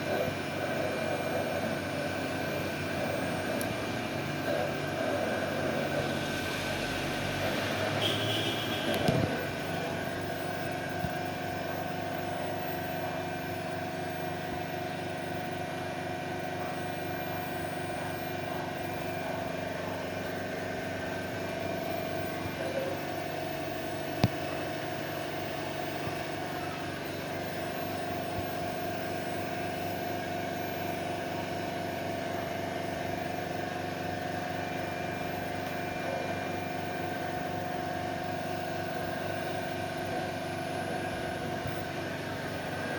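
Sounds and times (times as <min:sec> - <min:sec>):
machine mechanical hum: 0:00.0 - 0:42.9.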